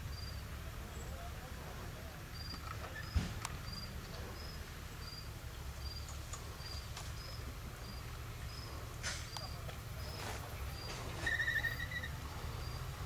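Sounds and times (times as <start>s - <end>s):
insect chirping: 0.0s - 1.1s, 2.3s - 13.0s
low steady rumble: 0.0s - 13.0s.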